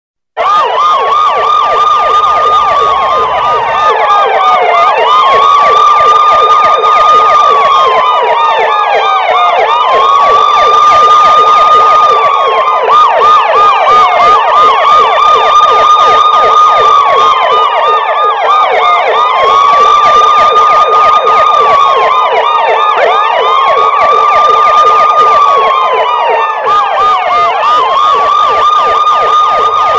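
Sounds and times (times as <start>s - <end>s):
siren wailing: 0.4s - 29.9s
warbling siren tone: 0.4s - 29.9s.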